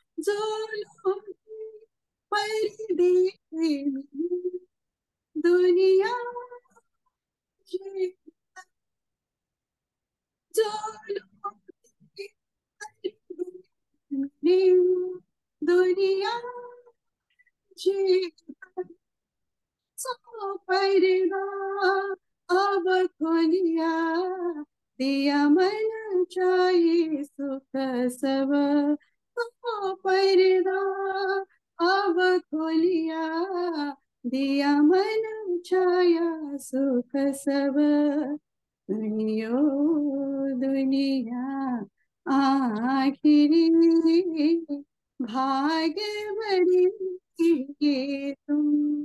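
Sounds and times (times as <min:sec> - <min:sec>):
woman singing unaccompanied: 0:00.0 - 0:04.7, 0:05.3 - 0:06.8, 0:10.5 - 0:11.6, 0:12.2 - 0:17.0, 0:17.8 - 0:19.0, 0:20.0 - 0:49.0.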